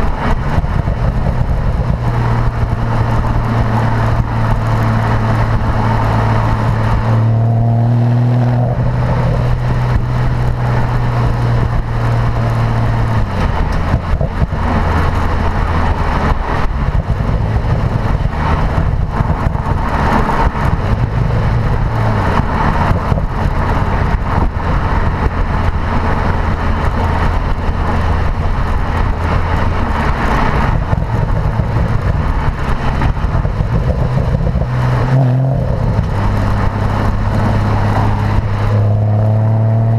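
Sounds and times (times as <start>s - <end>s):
road noise: 0.0s - 39.9s
sports car exhaust drone: 0.0s - 39.9s.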